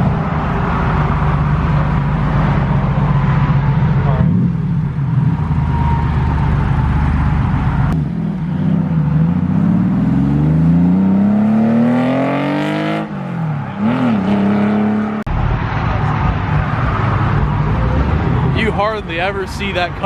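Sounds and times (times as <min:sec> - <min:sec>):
car engine accelerating: 0:00.0 - 0:19.2.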